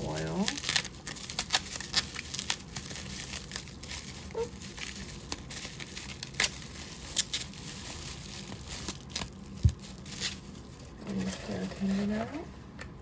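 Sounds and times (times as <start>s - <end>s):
packaging crinkling and rustling: 0.0s - 12.5s.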